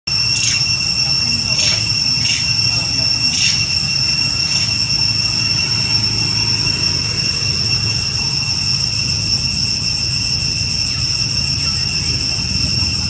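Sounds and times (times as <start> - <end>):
high-pitched whine: 0.1 - 13.0.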